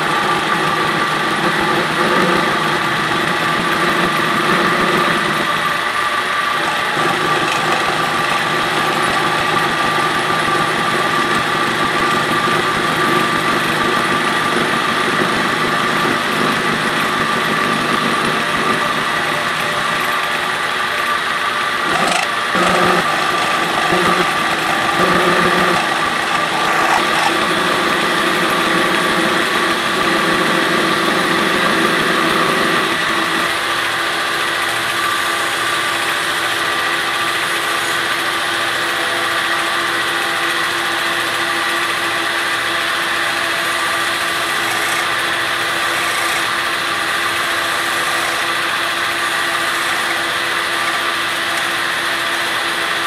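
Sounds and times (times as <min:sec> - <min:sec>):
lathe spindle whine: 0:00.0 - 0:53.0
lathe tool cutting steel: 0:00.0 - 0:53.0.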